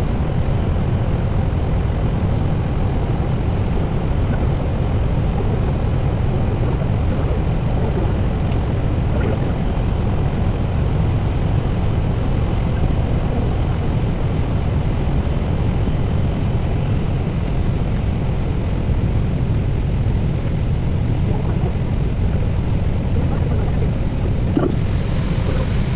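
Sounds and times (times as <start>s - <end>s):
aircraft engine roar and airflow: 0.0s - 25.9s.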